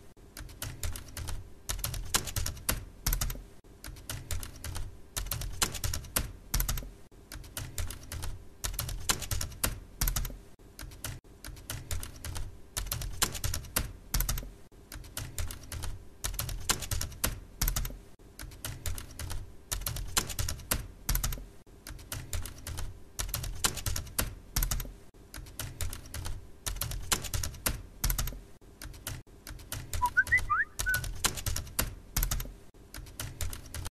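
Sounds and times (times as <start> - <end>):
typing on computer keyboard: 0.3 - 33.9.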